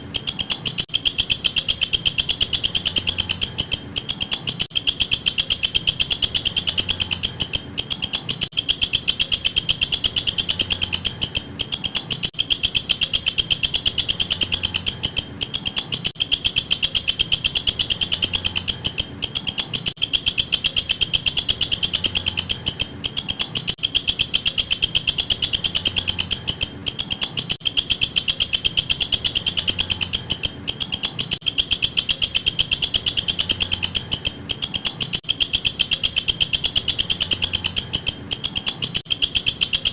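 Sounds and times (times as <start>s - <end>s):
insect shrill chirr: 0.0s - 39.9s.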